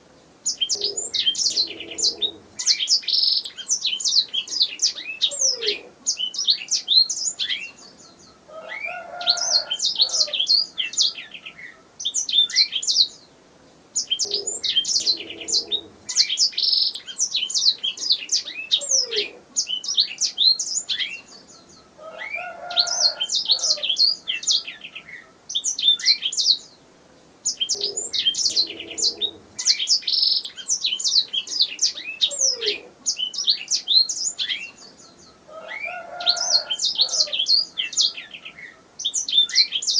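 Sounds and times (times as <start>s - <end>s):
canary singing: 0.0s - 13.2s, 14.0s - 26.7s, 27.4s - 39.9s.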